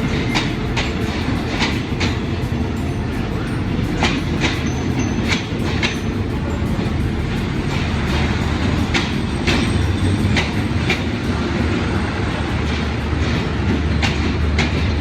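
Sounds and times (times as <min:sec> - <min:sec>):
train rumbling on rails: 0:00.0 - 0:15.0
wheels clacking over rail joints: 0:00.0 - 0:15.0.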